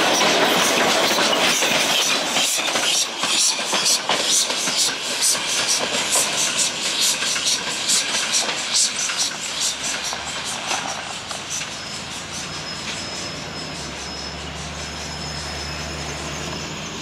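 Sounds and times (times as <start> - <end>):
train rolling past: 0.0 - 17.0
wheels clacking over rail joints: 0.0 - 17.0.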